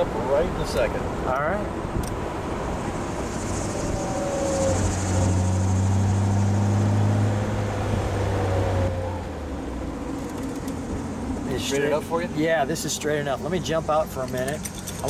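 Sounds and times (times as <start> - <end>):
car engine droning: 0.0 - 15.0
wind and road noise: 0.0 - 15.0.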